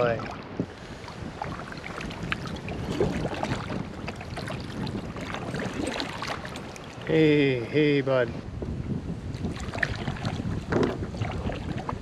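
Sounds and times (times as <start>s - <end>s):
paddle dipping and dripping: 0.0s - 12.0s
water lapping at hull: 0.0s - 12.0s.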